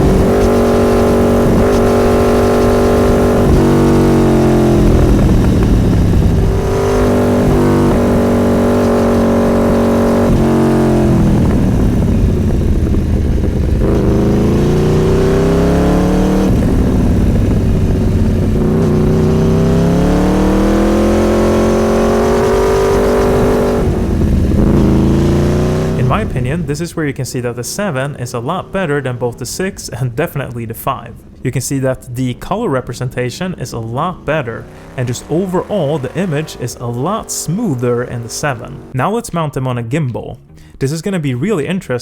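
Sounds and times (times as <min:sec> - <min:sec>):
motorcycle engine revving: 0:00.0 - 0:31.8, 0:32.6 - 0:39.0.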